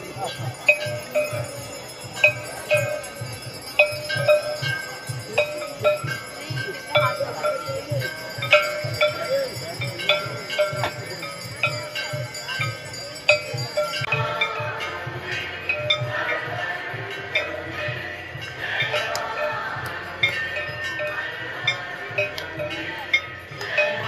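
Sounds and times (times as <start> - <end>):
bells ringing quickly: 0.0 - 24.0.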